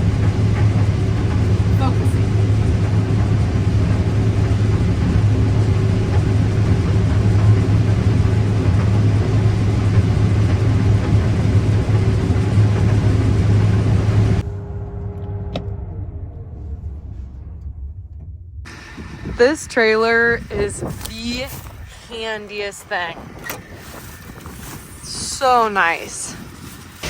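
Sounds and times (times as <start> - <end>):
diesel farm machinery droning: 0.0 - 27.0.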